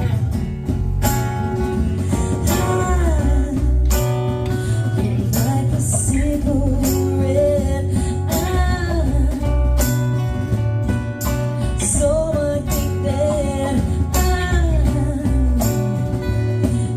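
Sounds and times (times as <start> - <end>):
live band music: 0.0 - 16.9.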